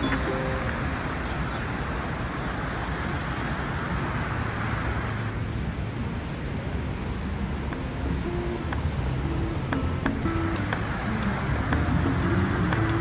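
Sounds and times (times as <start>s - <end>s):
car passing with tyre hiss: 0.0s - 12.9s
low rumble of road noise: 0.0s - 13.0s.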